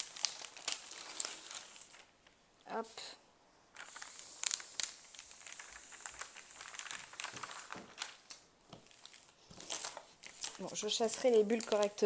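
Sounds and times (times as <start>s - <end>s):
plastic film crinkling: 0.0s - 2.4s, 3.7s - 12.0s.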